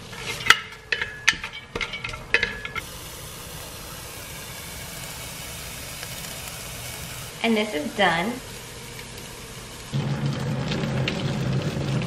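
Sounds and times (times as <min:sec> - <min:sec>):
vegetables sizzling in oil: 0:00.0 - 0:01.2, 0:02.1 - 0:12.0.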